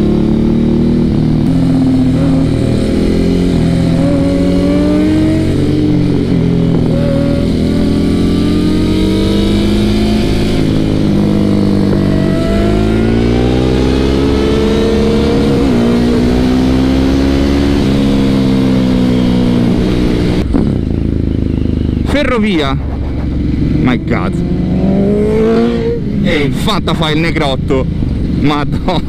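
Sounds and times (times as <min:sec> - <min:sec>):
motorcycle engines accelerating: 0:00.0 - 0:29.0.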